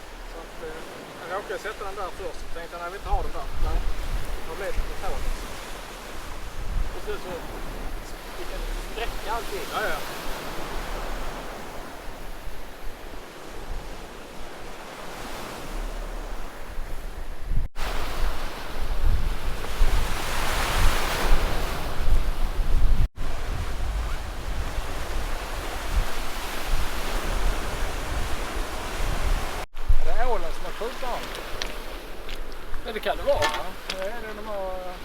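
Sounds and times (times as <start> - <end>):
sea waves washing ashore: 0.0 - 35.0
wind buffeting microphone: 0.0 - 35.0.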